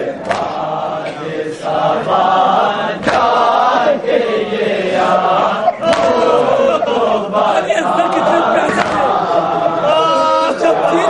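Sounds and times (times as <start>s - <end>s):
men chanting a lament: 0.0s - 11.0s.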